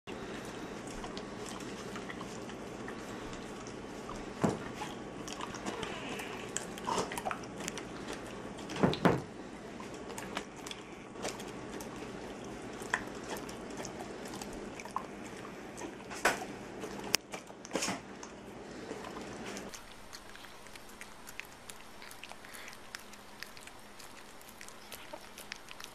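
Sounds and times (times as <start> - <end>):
dog licking and lip smacking: 0.4 - 8.8, 9.8 - 17.8, 18.9 - 25.9.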